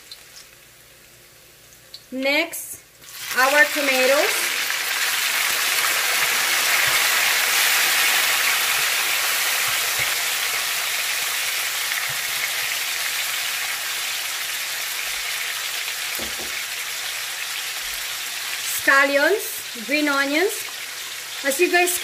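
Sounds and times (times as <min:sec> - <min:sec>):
tomatoes sizzling in oil: 0:00.0 - 0:22.0.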